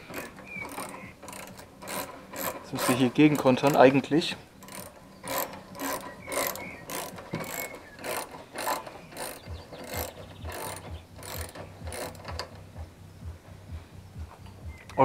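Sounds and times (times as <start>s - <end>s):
ratchet wrench clicking: 0.0s - 12.8s
low regular knocking: 0.0s - 15.0s.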